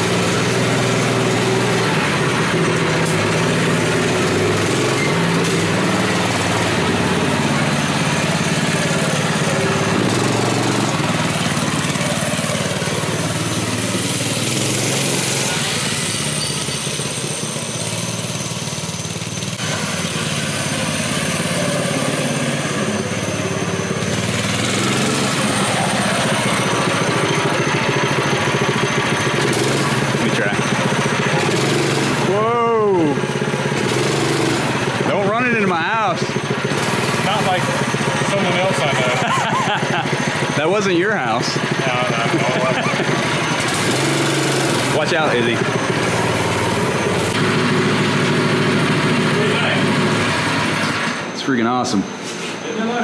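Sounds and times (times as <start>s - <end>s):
mini bike engine running: 0.0s - 52.0s.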